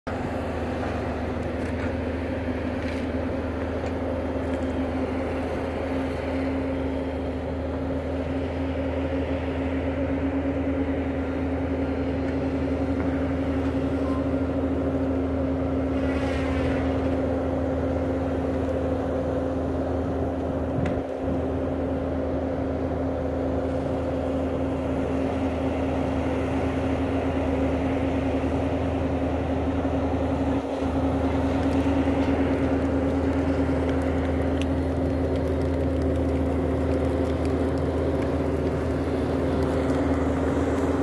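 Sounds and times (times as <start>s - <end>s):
constant engine whine: 0.0s - 41.0s
loader diesel engine running: 0.0s - 41.0s.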